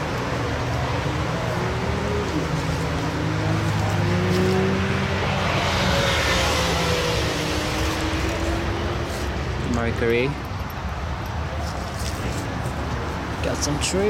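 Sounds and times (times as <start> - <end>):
car engines humming: 0.0 - 14.0.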